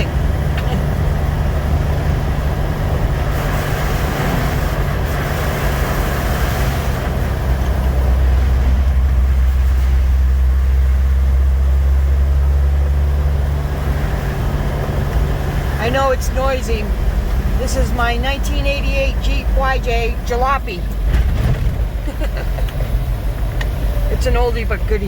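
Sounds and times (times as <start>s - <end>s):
car engine drone: 0.0s - 25.0s
road and wind noise: 0.0s - 25.0s.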